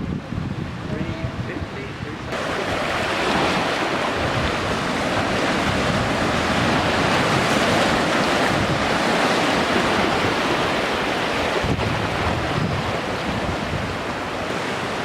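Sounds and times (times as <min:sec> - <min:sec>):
ocean surf washing: 0:00.0 - 0:15.0
wind noise on microphone: 0:00.0 - 0:15.0.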